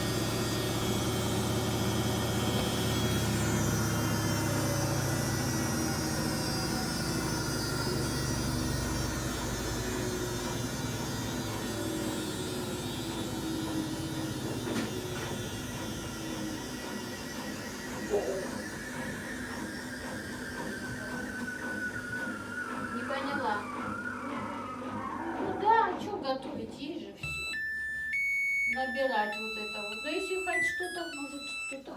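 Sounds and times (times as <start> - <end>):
washing machine drum whine: 0.0 - 31.9
washing machine low rumble: 0.0 - 31.9.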